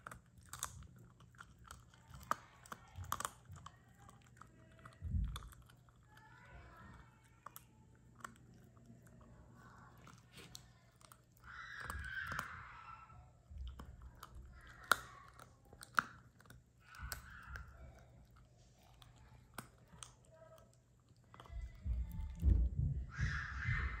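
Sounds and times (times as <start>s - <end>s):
puppy chewing crunchy treat: 0.0s - 22.9s.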